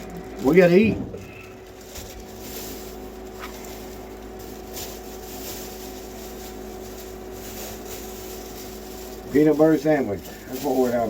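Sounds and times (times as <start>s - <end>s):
electric space heater humming: 0.0s - 11.0s
faint rustles: 0.5s - 11.0s.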